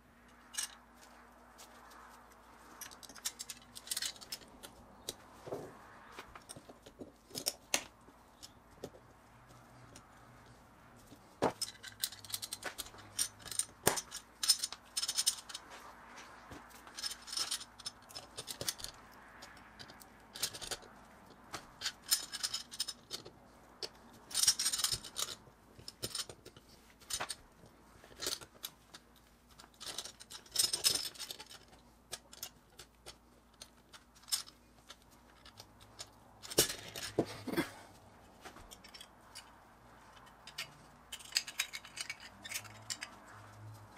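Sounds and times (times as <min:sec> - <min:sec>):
toy parts clicking and rattling: 0:00.3 - 0:05.2, 0:06.3 - 0:10.2, 0:11.0 - 0:15.7, 0:16.6 - 0:43.9.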